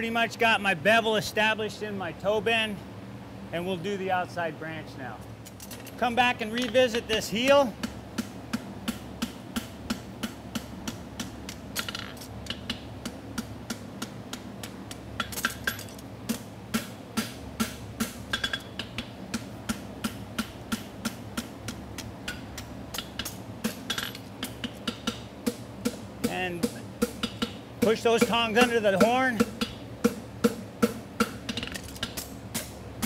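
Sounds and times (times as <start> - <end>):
cooler fan buzzing: 0.0 - 33.0.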